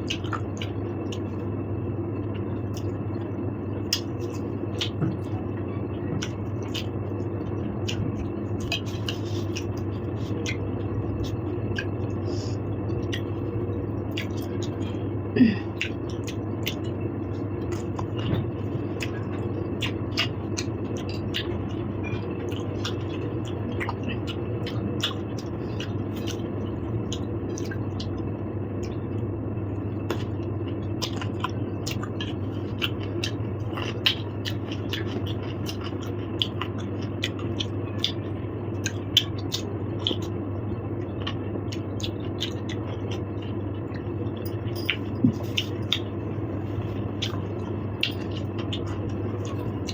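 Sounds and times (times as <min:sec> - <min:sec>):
steady low hum: 0:00.0 - 0:49.9
chewing: 0:03.8 - 0:12.2, 0:12.9 - 0:15.1, 0:15.7 - 0:29.1, 0:30.0 - 0:40.4, 0:41.0 - 0:49.9.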